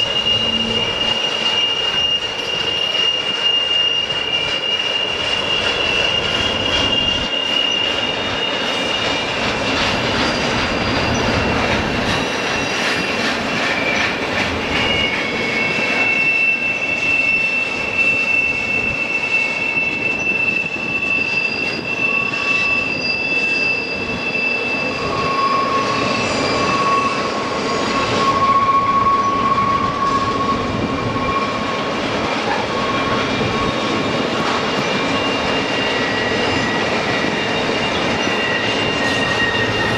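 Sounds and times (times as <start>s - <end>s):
train rumble: 0.0s - 39.9s
train wheels squealing on rails: 0.0s - 39.9s.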